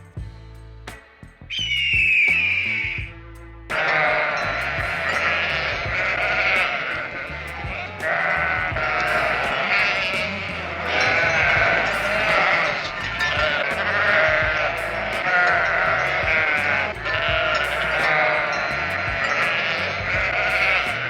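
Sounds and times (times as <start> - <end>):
background music: 0.0 - 21.0
animals bleating: 3.7 - 21.0.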